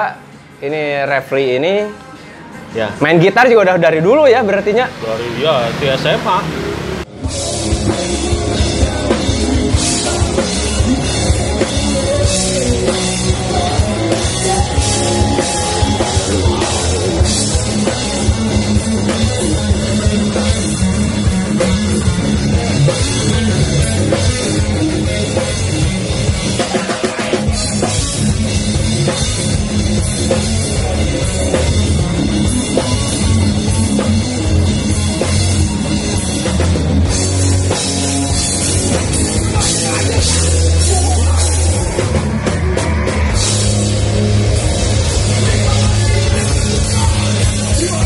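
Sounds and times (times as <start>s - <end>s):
distorted electric guitars: 4.0s - 48.0s
heavy rock band playing: 4.0s - 48.0s
drum kit: 4.4s - 48.0s.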